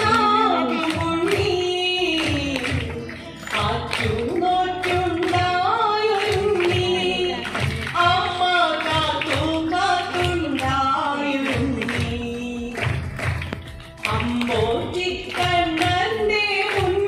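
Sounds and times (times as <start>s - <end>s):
woman singing through loudspeakers: 0.0s - 17.0s.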